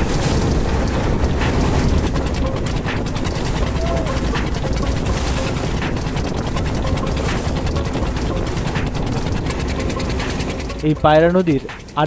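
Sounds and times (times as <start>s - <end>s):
diesel engine chugging: 0.0s - 12.0s
water rushing along hull: 0.0s - 12.0s.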